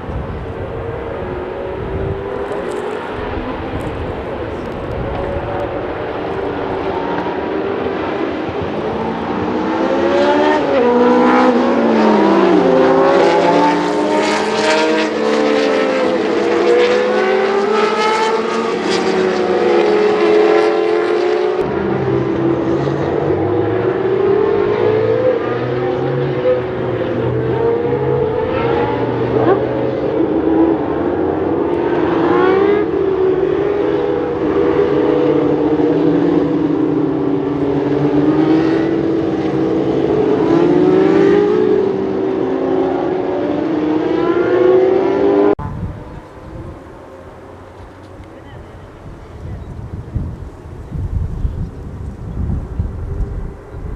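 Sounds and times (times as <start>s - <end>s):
racing car engines at high revs: 0.0s - 50.6s.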